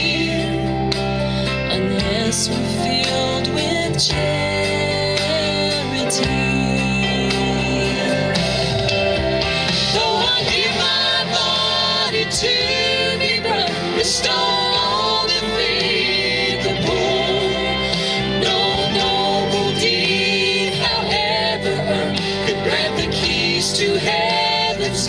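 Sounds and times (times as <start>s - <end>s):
live country gospel song: 0.0s - 25.0s.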